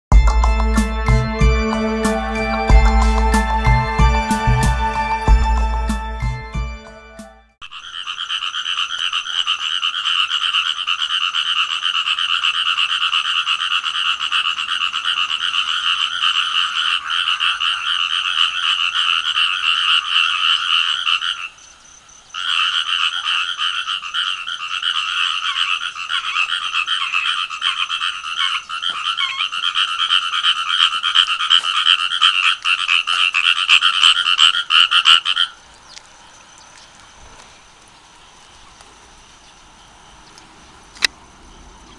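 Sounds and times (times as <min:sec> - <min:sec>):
frogs croaking chorus: 0:07.6 - 0:41.9.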